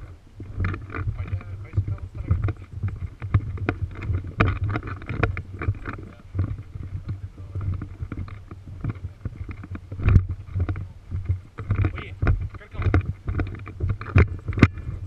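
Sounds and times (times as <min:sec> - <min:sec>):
microphone handling knocks and rustles: 0:00.0 - 0:15.0
wind rumble on microphone: 0:00.0 - 0:15.0.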